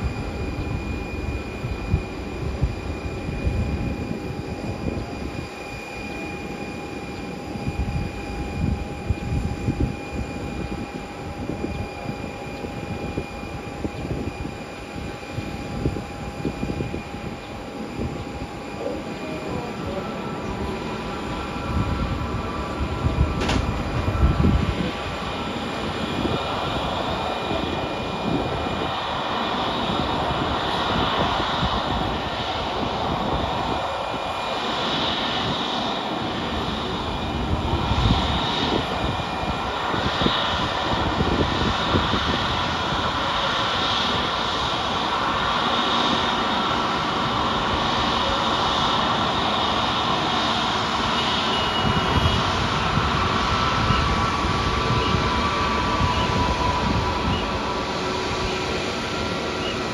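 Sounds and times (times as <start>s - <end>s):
jet engines whining at taxi power: 0.0s - 59.9s
wind rumbling on microphone: 0.0s - 59.9s.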